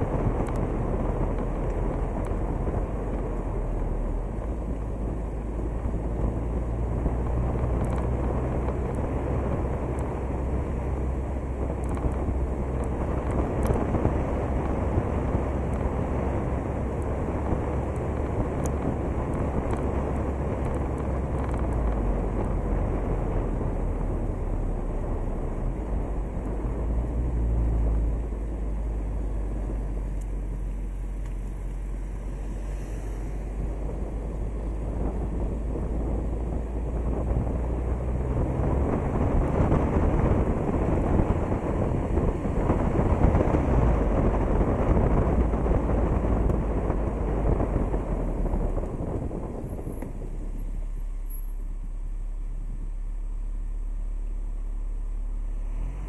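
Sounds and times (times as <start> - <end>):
tyre and wind rumble: 0.0 - 54.8.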